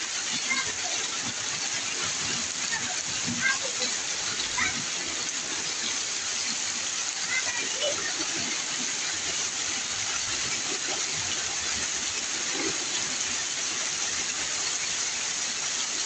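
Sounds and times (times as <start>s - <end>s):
heavy rain pouring off a roof: 0.0s - 16.0s.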